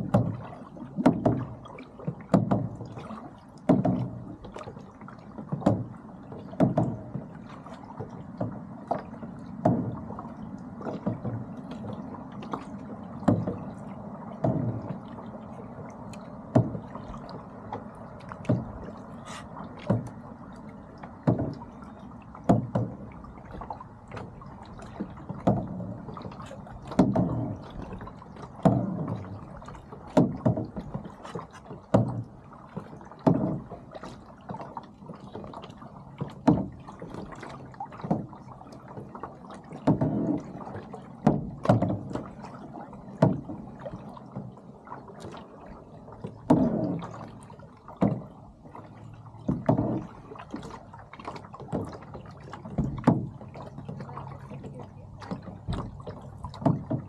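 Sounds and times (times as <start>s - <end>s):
water slapping against boat: 0.0s - 57.0s.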